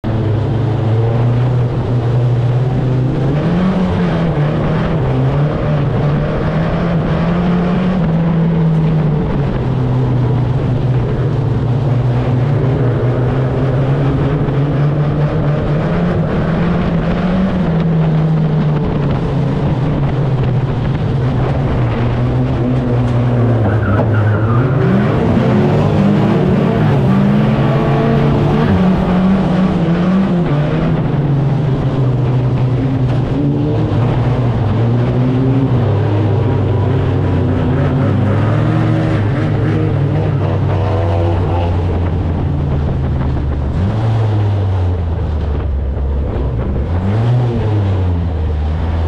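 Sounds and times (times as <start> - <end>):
race car engine running: 0.0 - 49.0.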